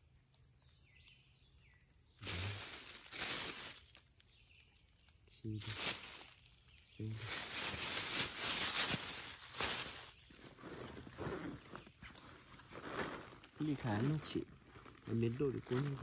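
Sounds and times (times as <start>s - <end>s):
insects chirring: 0.0s - 16.0s
rustling hiss: 2.1s - 16.0s.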